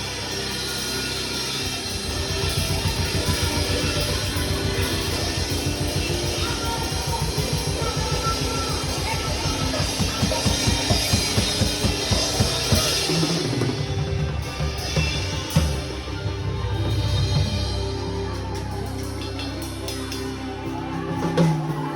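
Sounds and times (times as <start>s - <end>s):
drum kit playing: 0.0s - 21.9s.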